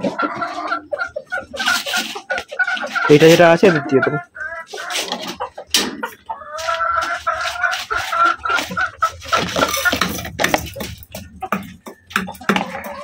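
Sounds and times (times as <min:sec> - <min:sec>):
hen pecking at bowl: 0:00.0 - 0:13.0.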